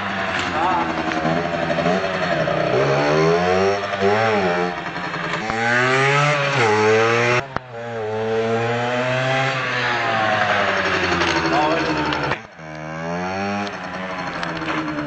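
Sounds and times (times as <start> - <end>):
dirt-bike engine revving: 0.0 - 15.0.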